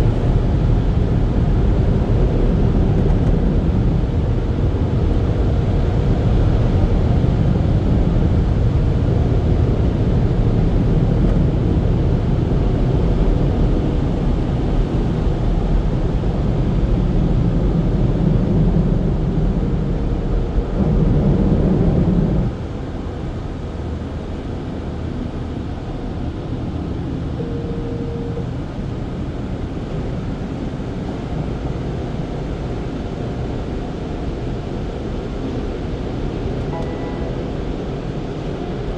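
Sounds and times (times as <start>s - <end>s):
car wash rumble and rush: 0.0s - 38.9s.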